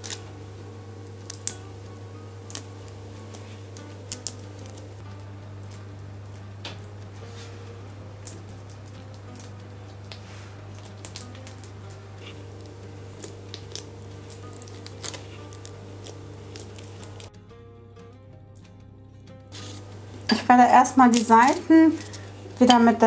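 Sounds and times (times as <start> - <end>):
dough crackling and clicking: 0.0 - 17.4, 19.5 - 23.0
steady low hum: 0.0 - 23.0.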